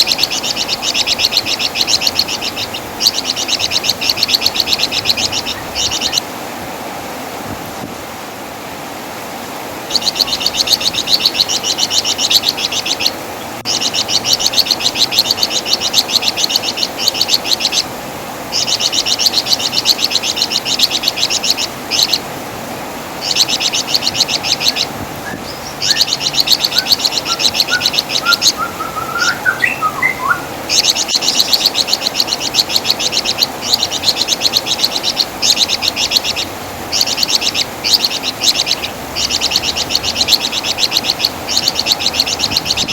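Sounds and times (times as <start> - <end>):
background hiss: 0.0 - 42.9.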